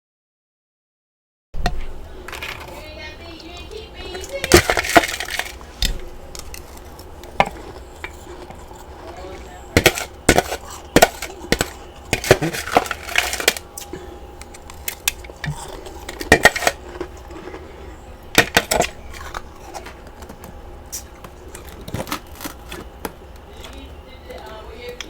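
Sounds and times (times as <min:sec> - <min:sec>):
ice chunks crunching in chewing: 0:02.2 - 0:23.8.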